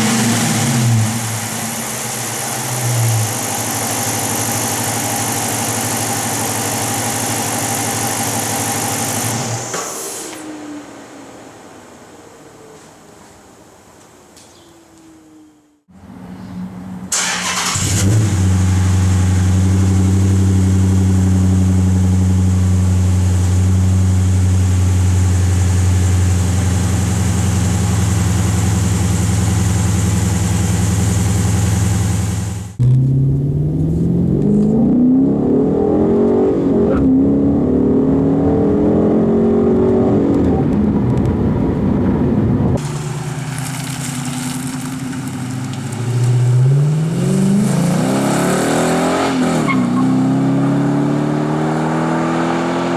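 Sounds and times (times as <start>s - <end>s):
car engine idling and revving: 0.0s - 12.5s, 15.9s - 52.9s.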